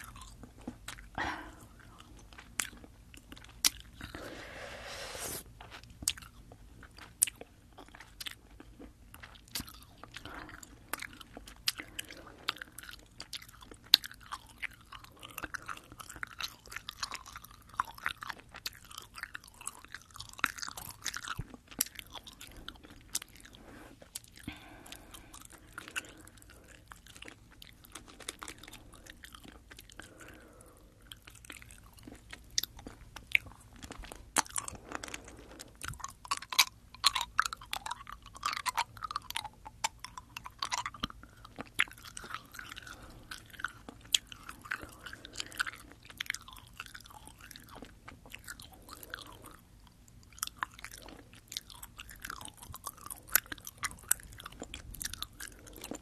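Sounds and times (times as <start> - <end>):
chewing gummy candy: 0.0 - 4.5, 5.5 - 56.0.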